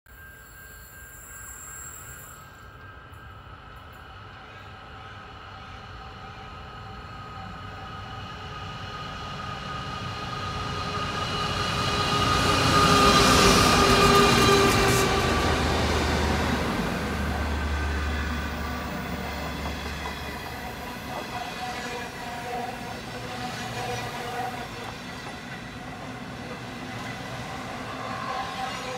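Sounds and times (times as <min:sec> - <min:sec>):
train coaches rolling on rails: 0:00.4 - 0:28.9
diesel locomotives passing: 0:01.3 - 0:28.9.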